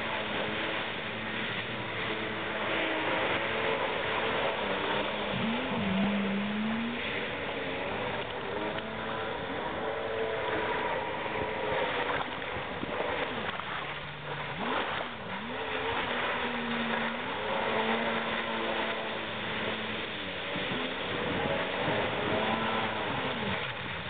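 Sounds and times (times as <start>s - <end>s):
jet ski engine at speed: 0.0s - 24.0s.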